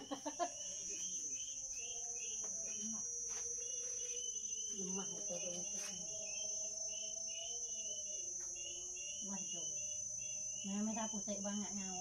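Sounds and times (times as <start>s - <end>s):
insect drone: 0.0s - 12.0s.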